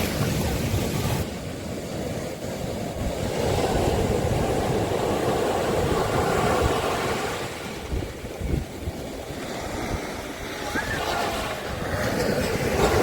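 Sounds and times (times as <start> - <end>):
sea waves breaking on beach: 0.0 - 13.0
wind rumbling on microphone: 0.0 - 13.0.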